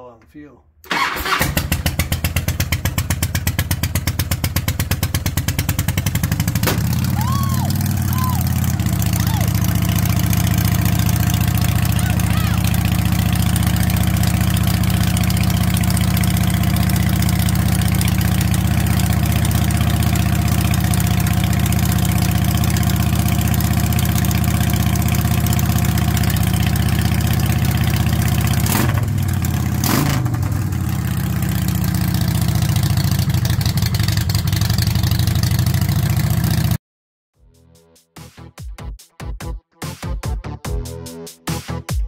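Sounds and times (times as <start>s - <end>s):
motorcycle engine idling: 1.2s - 36.8s.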